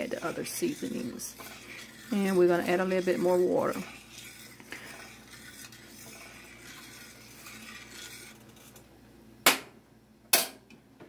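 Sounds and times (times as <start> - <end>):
spoon stirring gravy in a pan: 0.0 - 8.9.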